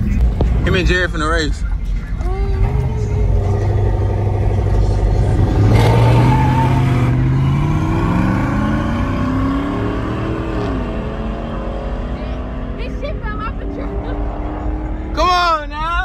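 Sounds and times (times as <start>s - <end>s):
truck engine accelerating: 0.0s - 15.8s.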